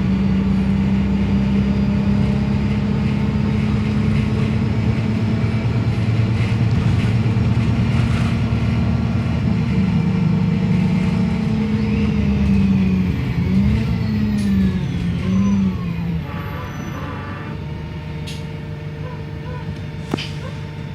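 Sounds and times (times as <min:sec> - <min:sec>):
bus diesel engine running: 0:00.0 - 0:20.9.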